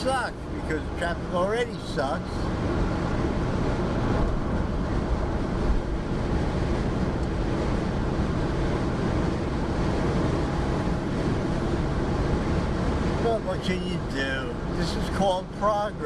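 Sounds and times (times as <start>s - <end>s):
car engine hum: 0.0s - 16.0s.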